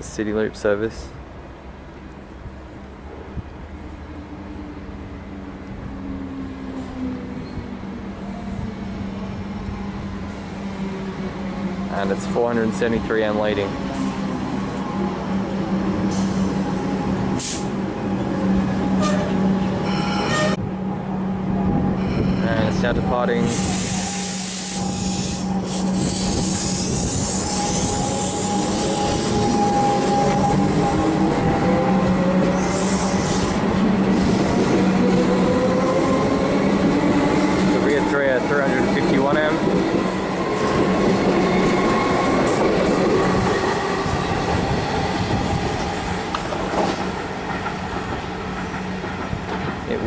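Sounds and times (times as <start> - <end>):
train wheels rumbling on rails: 5.4 - 50.0.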